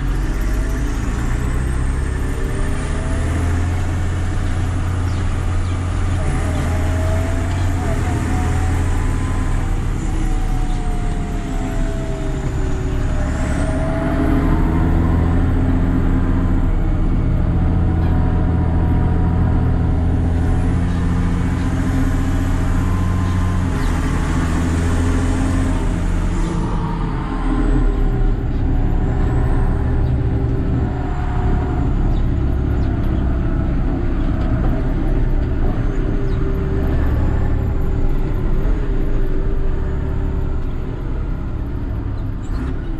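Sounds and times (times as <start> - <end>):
tractor diesel engine: 0.0 - 42.9.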